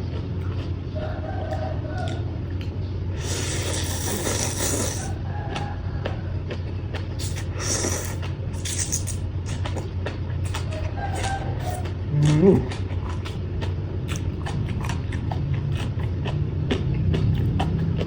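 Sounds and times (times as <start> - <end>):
chewing and crunching food: 0.0 - 18.0
steady low hum: 0.0 - 18.0.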